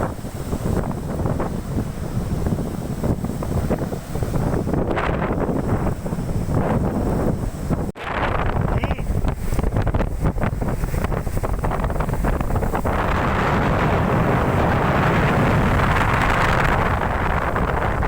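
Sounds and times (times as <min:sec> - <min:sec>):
rough water: 0:00.0 - 0:18.0
wind buffeting microphone: 0:00.0 - 0:18.0.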